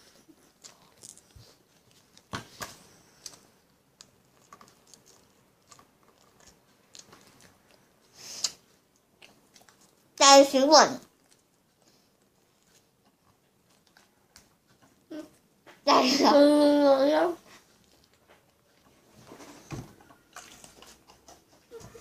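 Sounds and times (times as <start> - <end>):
chewing and wet mouth noises: 0.1 - 2.3, 3.0 - 10.2, 11.0 - 15.6, 17.4 - 19.1, 20.0 - 22.0.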